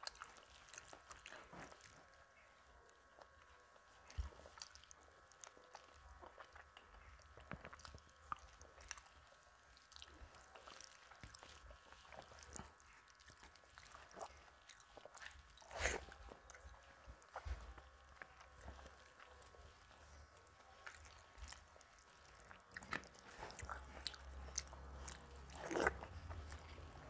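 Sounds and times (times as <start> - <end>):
fingers squishing rice: 0.0 - 27.0
mouth chewing: 0.0 - 27.0.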